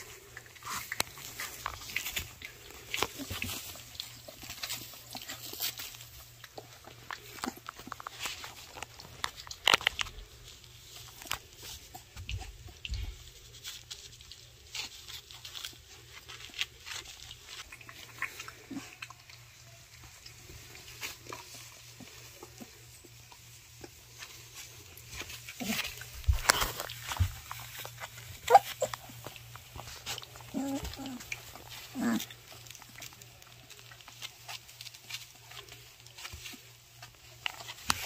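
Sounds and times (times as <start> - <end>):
puppies lapping and chewing: 0.0 - 38.0.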